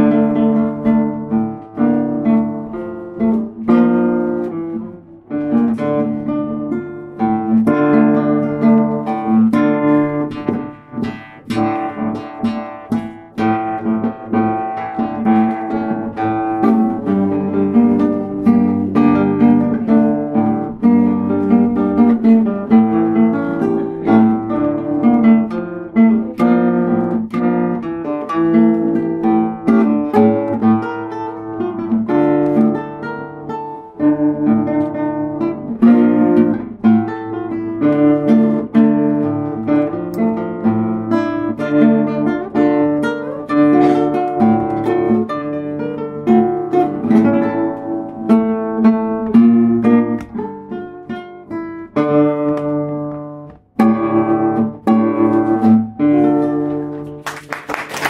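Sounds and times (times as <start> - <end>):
classical guitar melody: 0.0 - 58.0.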